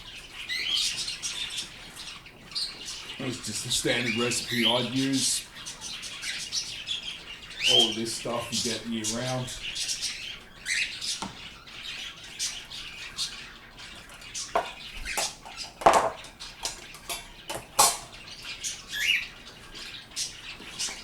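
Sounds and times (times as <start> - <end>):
pet birds squawking and chirping: 0.0 - 21.0.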